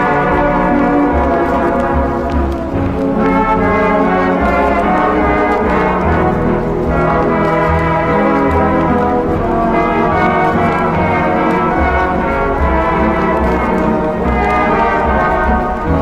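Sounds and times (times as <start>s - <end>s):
orchestral brass chords: 0.0s - 16.0s.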